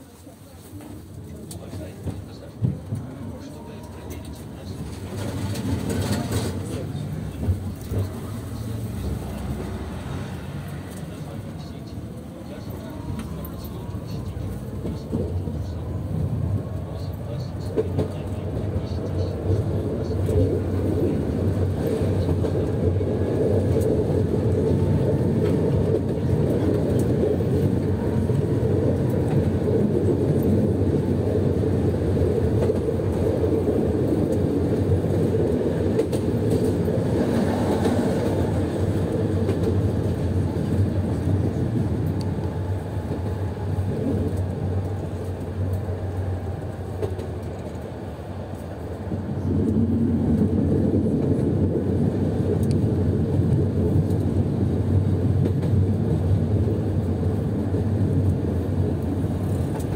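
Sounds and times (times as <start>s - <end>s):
tram wheels rumbling on rails: 0.0s - 59.9s.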